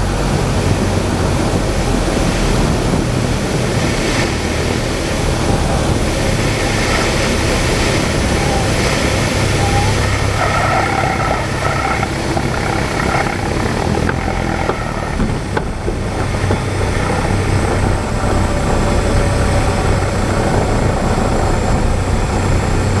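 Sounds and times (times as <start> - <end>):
small plane engine droning: 0.0 - 23.0
wheels rolling on runway: 0.0 - 23.0.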